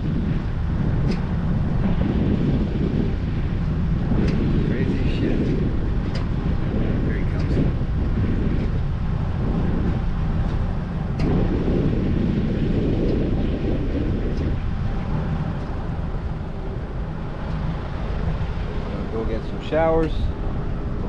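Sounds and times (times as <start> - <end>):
boat engine rumble: 0.0 - 21.0
wind buffeting microphone: 0.0 - 21.0.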